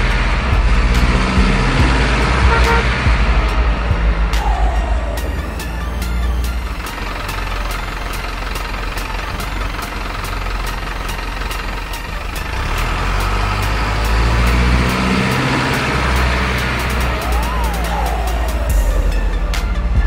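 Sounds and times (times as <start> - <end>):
diesel truck engine revving: 0.0 - 20.0
regular ticking: 0.0 - 20.0.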